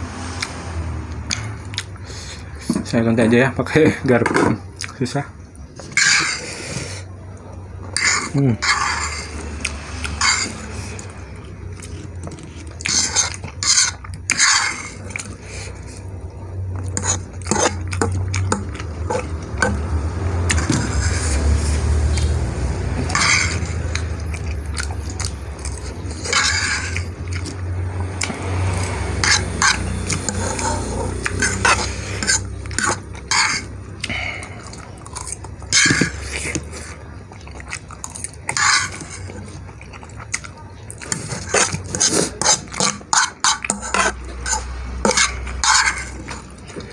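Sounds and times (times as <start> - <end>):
close-up chewing: 1.3 - 2.8, 9.4 - 21.2, 21.8 - 46.9.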